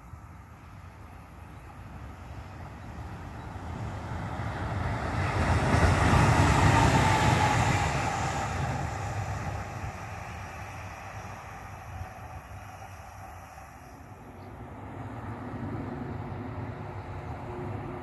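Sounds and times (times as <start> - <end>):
electric locomotives passing: 0.0 - 18.0.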